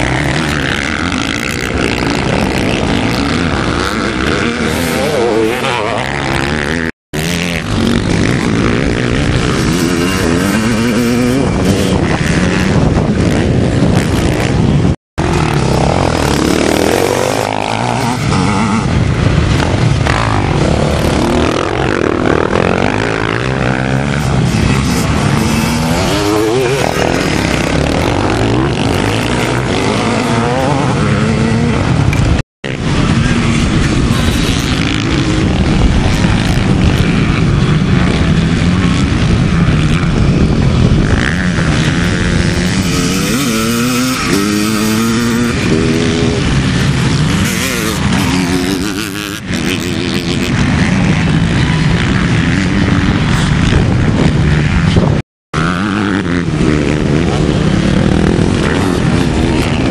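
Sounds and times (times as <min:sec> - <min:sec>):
motocross motorcycles revving: 0:00.0 - 0:59.9.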